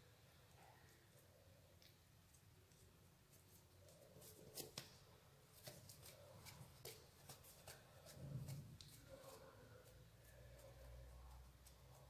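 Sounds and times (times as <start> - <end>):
hands working dough: 0.0 - 12.0.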